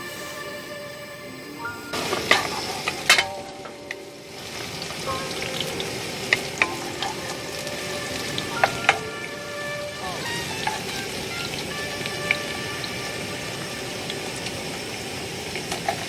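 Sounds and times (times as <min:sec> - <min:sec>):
food sizzling in a frying pan: 0:01.6 - 0:16.0.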